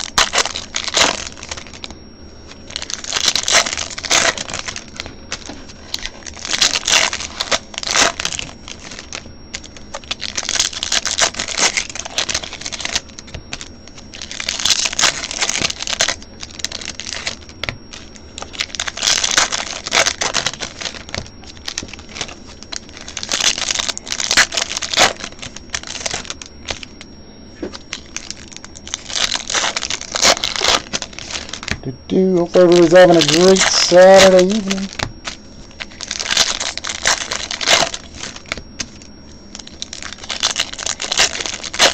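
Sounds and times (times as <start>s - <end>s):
foil wrappers crinkling and tearing: 0.0s - 41.9s.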